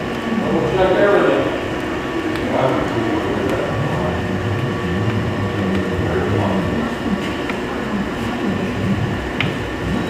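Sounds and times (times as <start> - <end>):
low mechanical rumble: 0.0 - 10.0.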